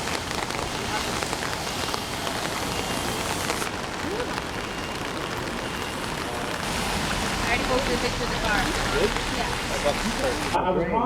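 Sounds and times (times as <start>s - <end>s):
floodwater rushing: 0.0s - 10.6s
heavy rain: 0.0s - 10.6s.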